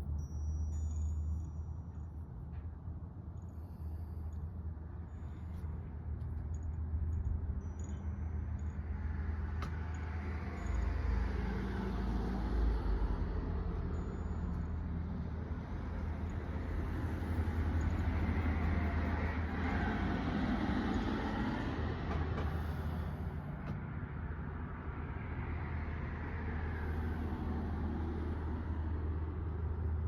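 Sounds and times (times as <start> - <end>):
low rumble and hum: 0.0 - 30.0.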